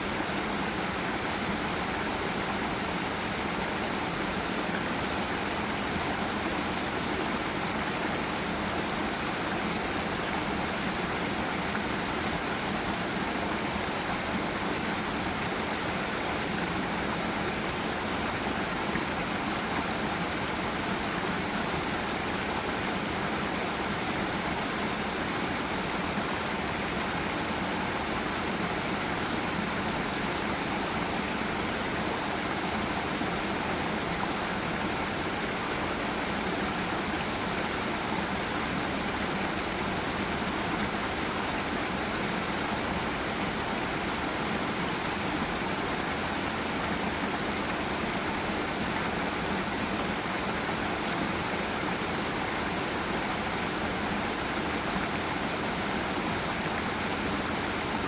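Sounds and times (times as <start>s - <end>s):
stream and waterfall rushing: 0.0s - 58.0s.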